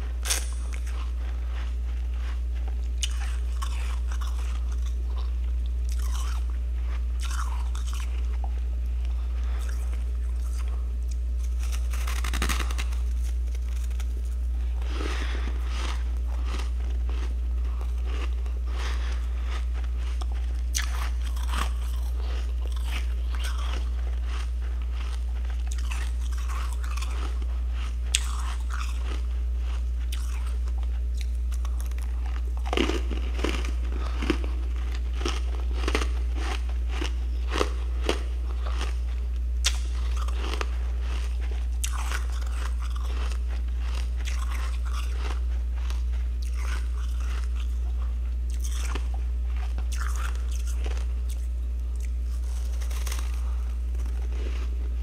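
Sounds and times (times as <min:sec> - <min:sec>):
frost being chewed crunching: 0:00.0 - 0:55.0
steady low hum: 0:00.0 - 0:55.0.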